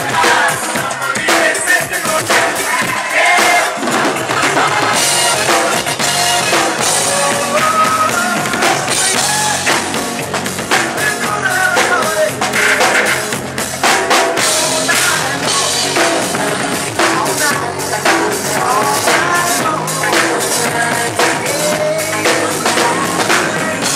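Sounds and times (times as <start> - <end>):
live drum kit playing: 0.0 - 23.9
loud dance music: 0.0 - 23.9.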